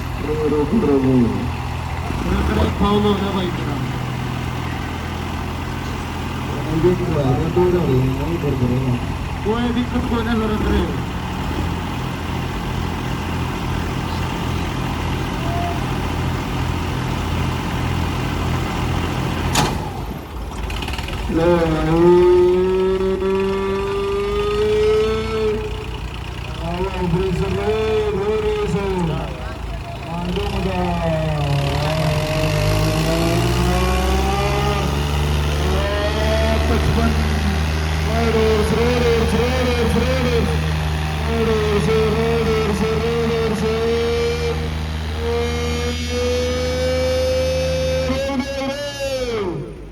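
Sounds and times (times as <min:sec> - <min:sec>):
tractor engine idling: 0:00.0 - 0:34.2, 0:34.8 - 0:46.5.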